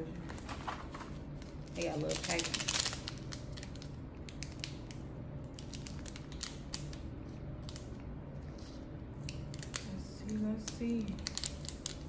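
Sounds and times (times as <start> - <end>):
low steady hum: 0.0 - 12.0
plastic packet tearing: 1.4 - 7.9, 8.5 - 12.0
plastic crinkles and clicks: 1.4 - 12.0.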